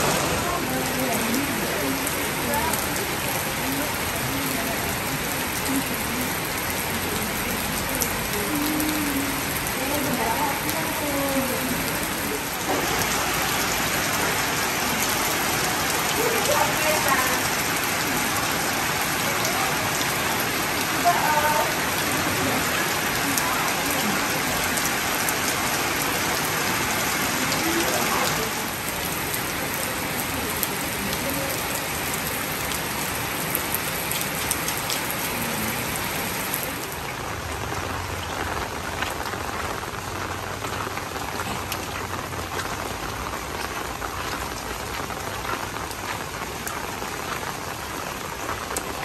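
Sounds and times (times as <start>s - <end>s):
heavy rain on wet paving: 0.0s - 49.0s
raindrop hits: 0.0s - 49.0s.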